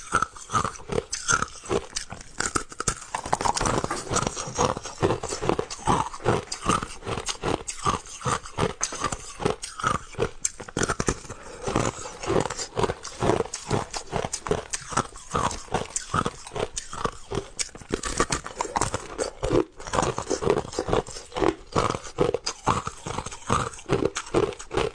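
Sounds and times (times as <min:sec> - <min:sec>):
crushed ice being chewed: 0:00.0 - 0:24.9.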